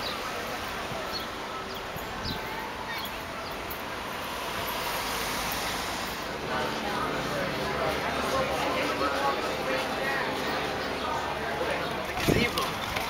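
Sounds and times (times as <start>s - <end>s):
traffic: 0.0s - 13.0s
wind: 0.0s - 13.0s.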